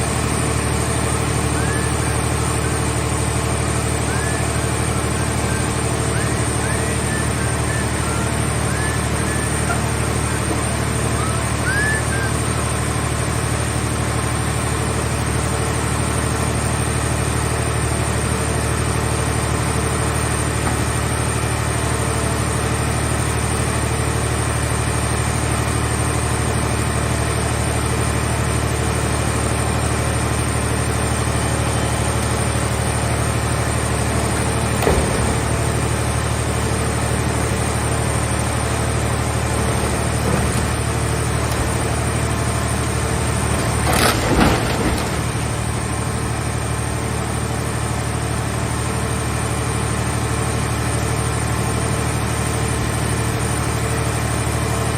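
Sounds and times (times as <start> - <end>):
baler engine running: 0.0 - 54.9.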